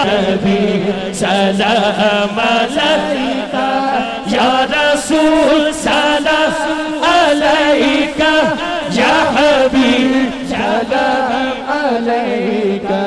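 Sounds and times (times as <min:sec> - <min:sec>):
male voices chanting over loudspeakers: 0:00.0 - 0:13.0.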